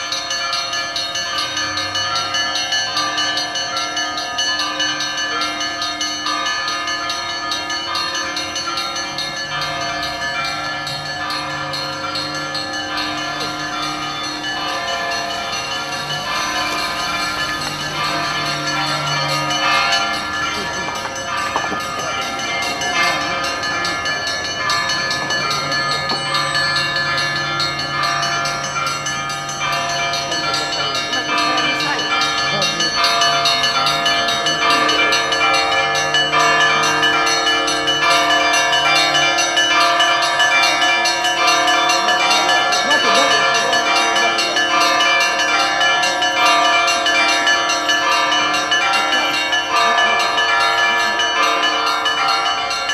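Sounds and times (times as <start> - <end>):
church bells pealing: 0.0 - 52.9.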